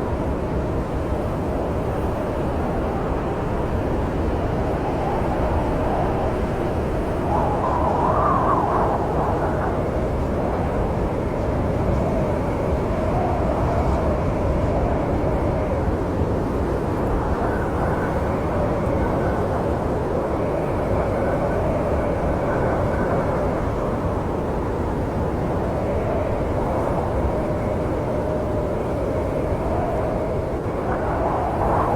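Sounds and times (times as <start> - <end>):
snowstorm wind howling: 0.0 - 31.9.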